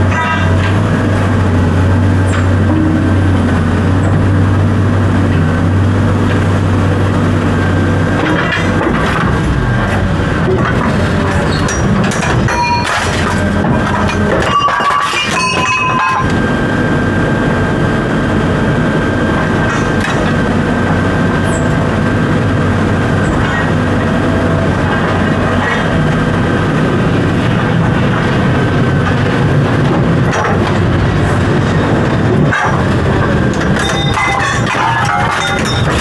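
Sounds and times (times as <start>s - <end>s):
large engine running: 0.0s - 36.0s.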